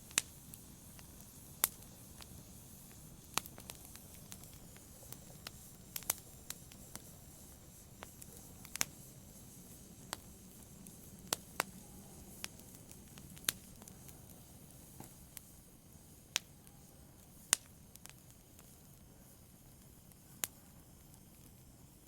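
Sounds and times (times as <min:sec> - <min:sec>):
faint steady hiss: 0:00.0 - 0:22.0
wood fire crackling: 0:00.0 - 0:22.0.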